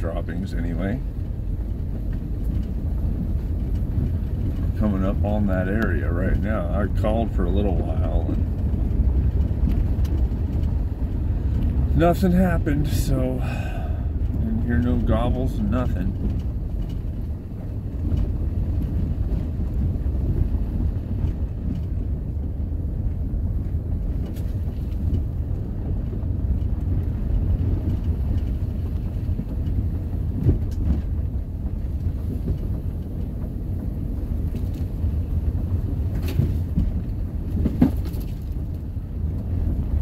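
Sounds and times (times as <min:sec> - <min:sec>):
engine and road rumble: 0:00.0 - 0:40.0.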